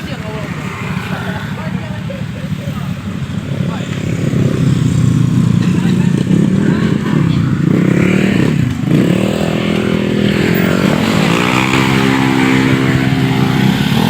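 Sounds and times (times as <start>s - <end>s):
motorcycle engine under throttle: 0.0s - 14.0s.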